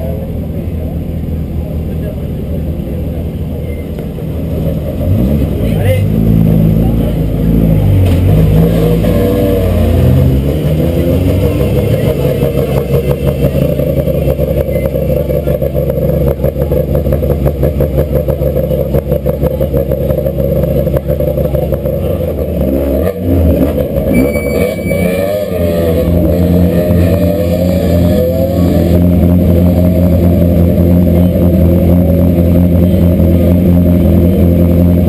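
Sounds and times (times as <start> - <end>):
rally car engines idling roughly: 0.0 - 8.2, 10.6 - 25.2, 25.9 - 35.0.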